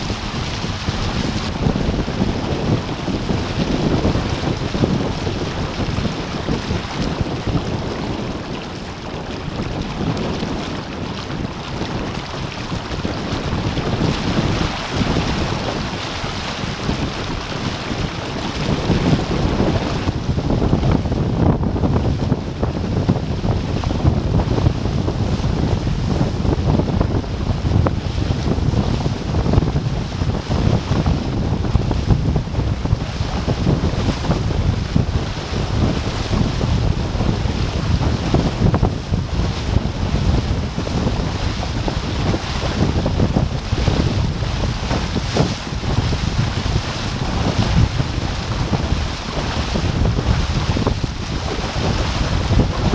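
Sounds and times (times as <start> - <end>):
water rushing and splashing: 0.0 - 52.9
wind buffeting microphone: 0.0 - 52.9.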